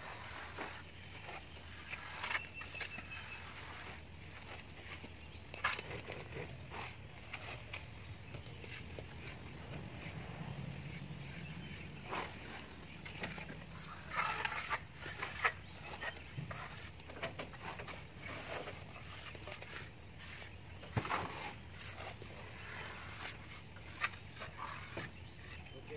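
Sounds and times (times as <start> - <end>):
steel trowels scraping and knocking: 0.0 - 25.7.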